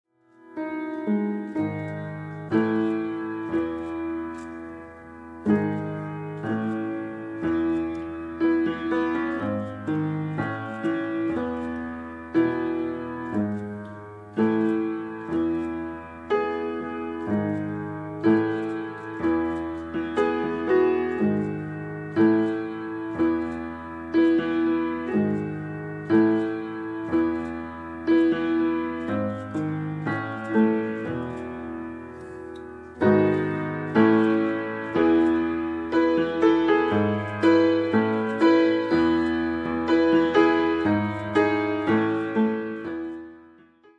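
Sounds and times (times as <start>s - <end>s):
piano chords: 0.1s - 43.9s.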